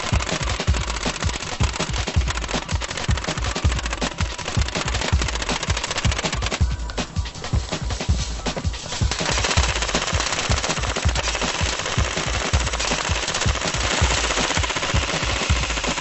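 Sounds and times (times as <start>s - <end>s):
airsoft gun firing bursts: 0.0s - 7.3s, 8.9s - 16.0s
background music: 0.0s - 16.0s.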